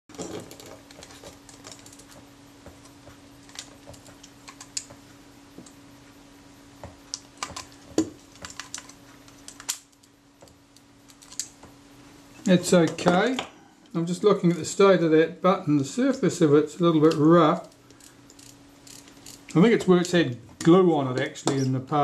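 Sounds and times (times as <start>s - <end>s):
faint steady hum: 0.1s - 22.0s.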